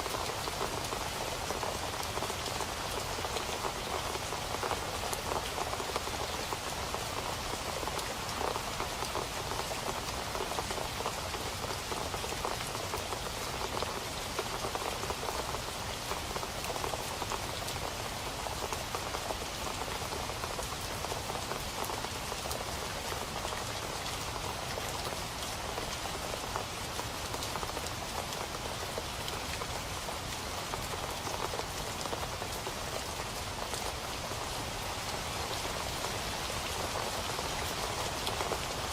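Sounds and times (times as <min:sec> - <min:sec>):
rain falling on a surface: 0:00.0 - 0:38.9.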